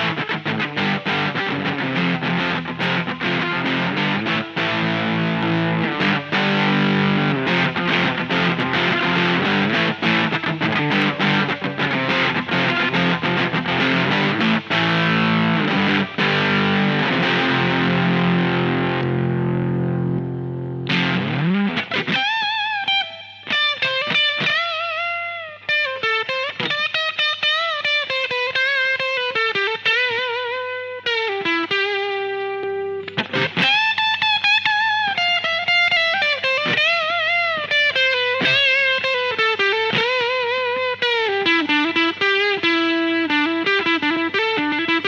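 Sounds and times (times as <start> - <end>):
electric guitar lead melody: 0.0 - 45.0.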